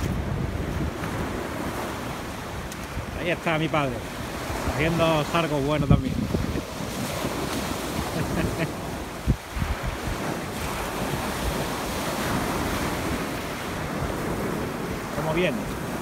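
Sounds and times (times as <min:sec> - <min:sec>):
waves breaking on a beach: 0:00.0 - 0:16.0
wind buffeting microphone: 0:00.0 - 0:16.0.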